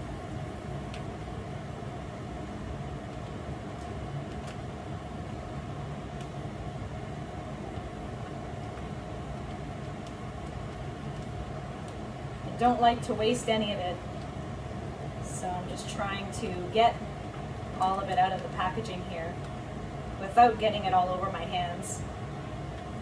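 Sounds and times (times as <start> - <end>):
fan humming: 0.0 - 23.0.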